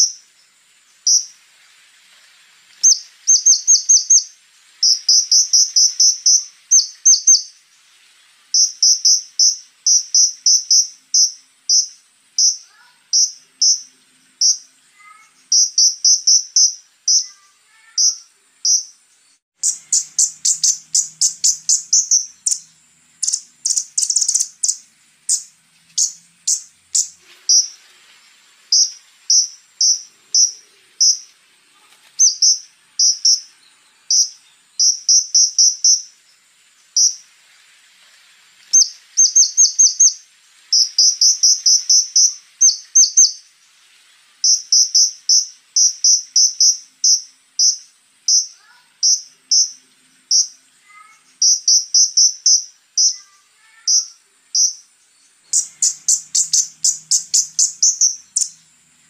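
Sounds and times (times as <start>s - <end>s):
bird singing high chip notes: 0.0s - 1.4s, 2.7s - 7.7s, 8.4s - 27.9s, 28.7s - 31.4s, 32.2s - 37.3s, 38.7s - 43.5s, 44.4s - 59.0s.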